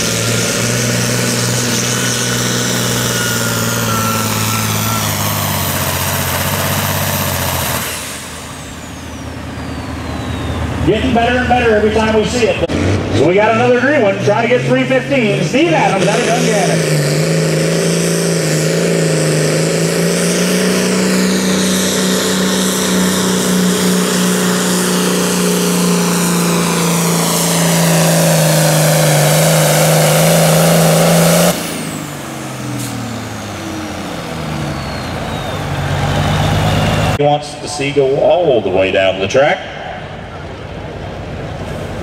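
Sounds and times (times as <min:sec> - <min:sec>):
diesel engine running under load: 0:00.0 - 0:42.0
high turbocharger whine: 0:00.0 - 0:42.0.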